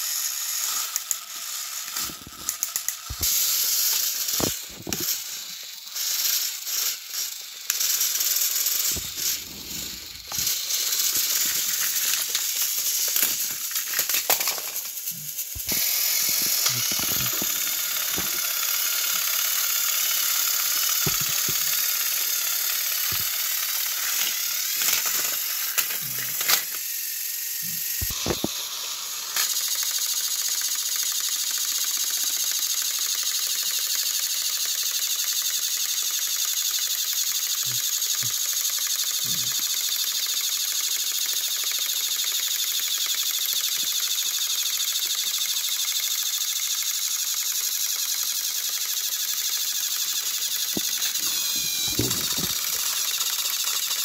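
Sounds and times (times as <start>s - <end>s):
plastic trains clicking and rattling: 0.0s - 54.0s
toy train motors whirring: 0.0s - 54.0s.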